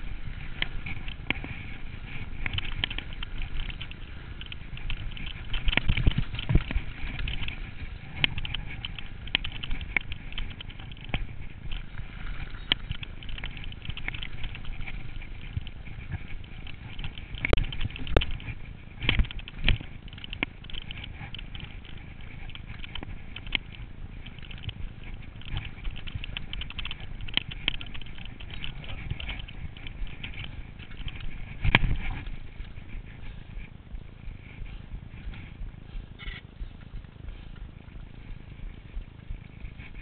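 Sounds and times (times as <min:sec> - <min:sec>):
bike rattling over bumps: 0:00.0 - 0:40.0.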